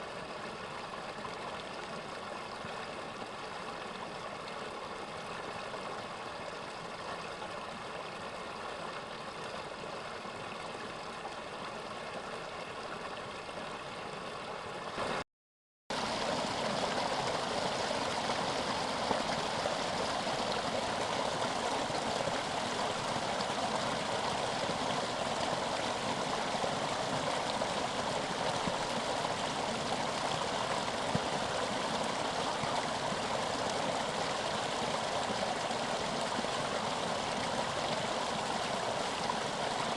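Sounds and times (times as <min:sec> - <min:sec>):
stream water rushing: 0:00.0 - 0:15.2, 0:15.9 - 0:39.9.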